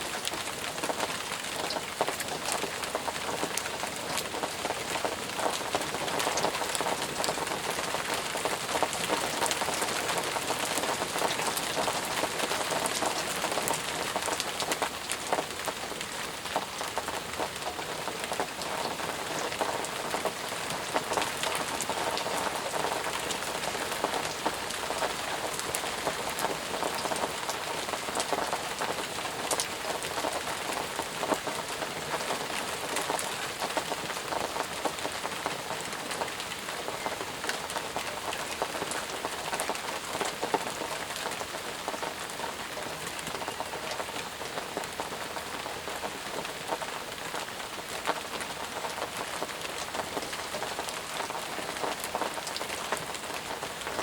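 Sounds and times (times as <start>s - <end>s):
heavy rain falling: 0.0s - 54.0s
raindrops pattering on surfaces: 0.0s - 54.0s.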